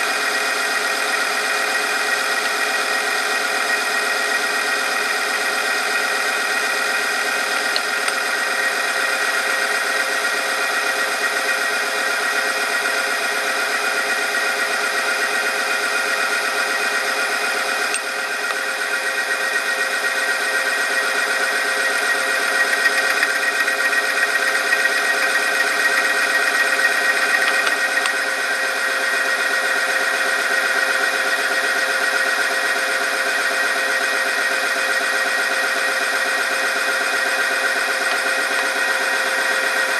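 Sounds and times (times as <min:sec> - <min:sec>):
machine whine and metal squeal: 0:00.0 - 0:39.9.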